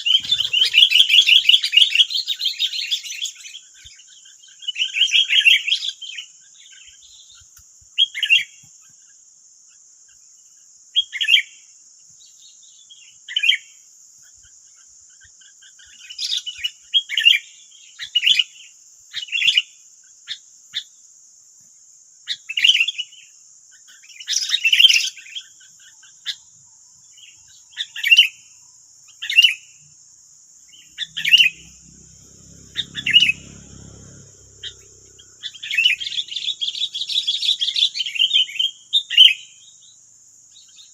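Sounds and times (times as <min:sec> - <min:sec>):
bulbuls chirping: 0:00.0 - 0:09.2, 0:14.2 - 0:20.4, 0:22.3 - 0:40.9.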